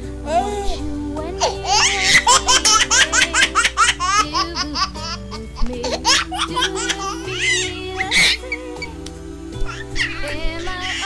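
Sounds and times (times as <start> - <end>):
background music with bass line: 0.0 - 11.0
baby laughing: 0.3 - 8.6, 9.7 - 11.0.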